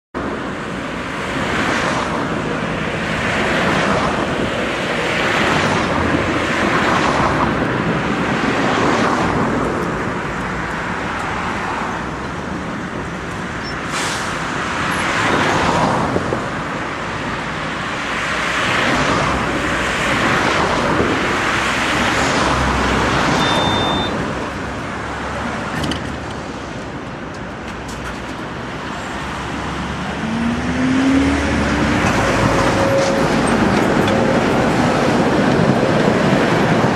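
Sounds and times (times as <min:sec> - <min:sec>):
cars passing: 0:00.2 - 0:36.9.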